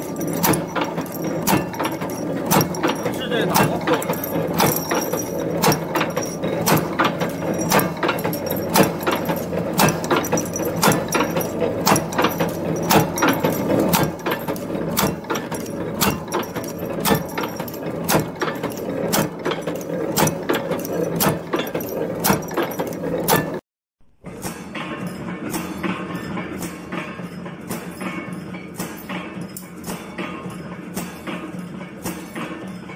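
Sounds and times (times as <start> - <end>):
sharp metal clacks of machine: 0.0 - 23.6, 24.2 - 32.9
continuous mechanical hum: 0.0 - 32.9.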